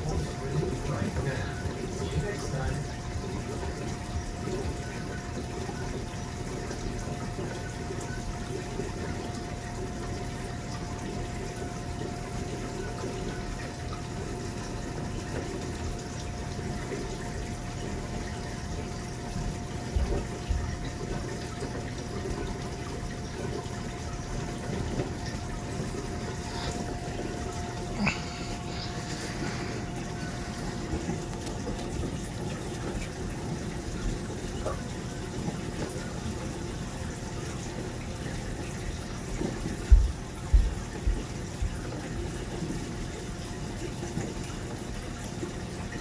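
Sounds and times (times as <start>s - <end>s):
faint constant whine: 0.0s - 46.0s
running water and pump noise: 0.0s - 46.0s.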